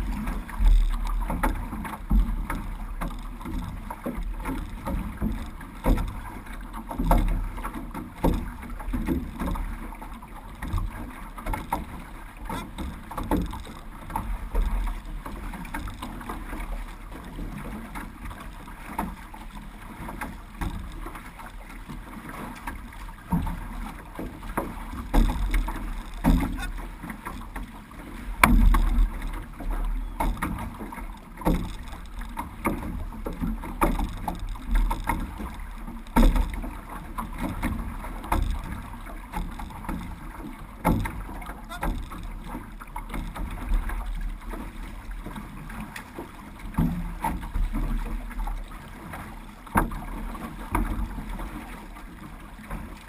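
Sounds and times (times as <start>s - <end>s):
paddle strokes: 0.0s - 53.0s
water splashing along hull: 0.0s - 53.0s.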